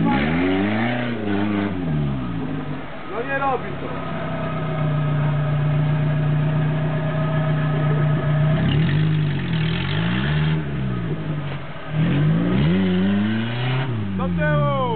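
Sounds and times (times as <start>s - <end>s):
off-road vehicle engine revving: 0.0s - 14.9s.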